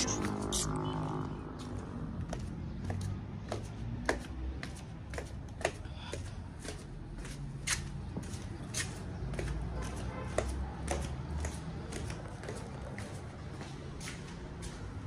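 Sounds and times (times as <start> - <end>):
slippers slapping on concrete stairs: 1.6 - 15.0.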